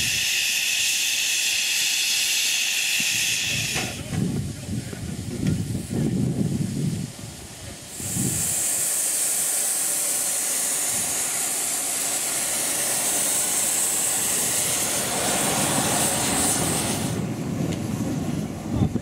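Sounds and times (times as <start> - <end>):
steam hissing from locomotive: 0.0 - 18.6.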